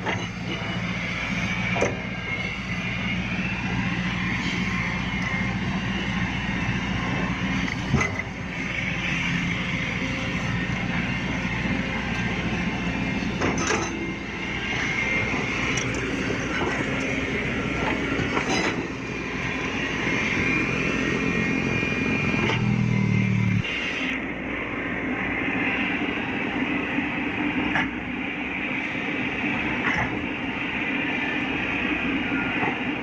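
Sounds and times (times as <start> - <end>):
diesel engine drone: 0.0 - 33.0
high hydraulic whine: 0.0 - 33.0.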